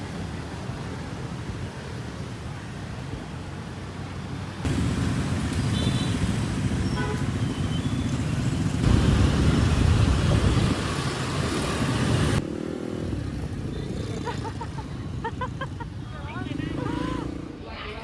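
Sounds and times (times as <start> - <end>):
motorbikes and cars passing: 0.0 - 18.0.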